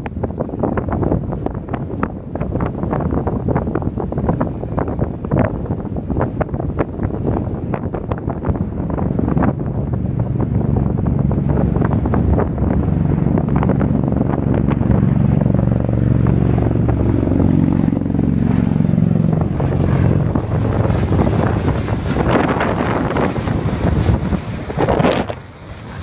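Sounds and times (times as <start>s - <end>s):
aircraft rotors droning overhead: 0.0s - 26.0s
wind buffeting microphone: 0.0s - 26.0s.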